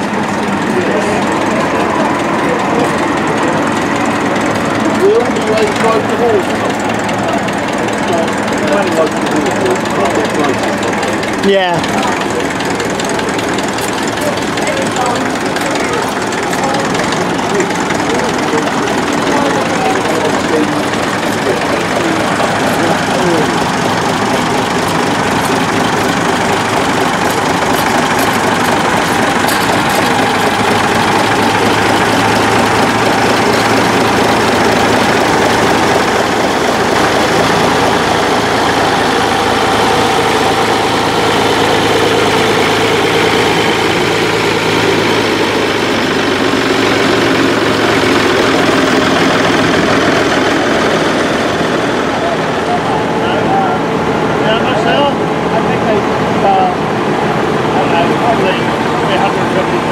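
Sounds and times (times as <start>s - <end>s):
tractor engines running at low revs: 0.0s - 59.9s.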